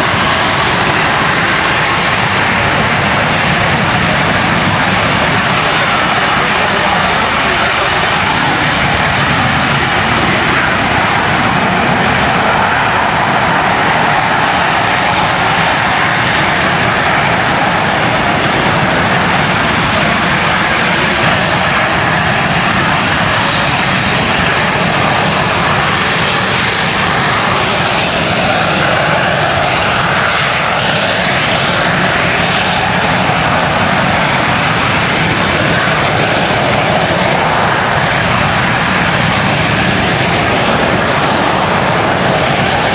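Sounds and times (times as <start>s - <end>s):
aircraft engine running: 0.0s - 42.9s.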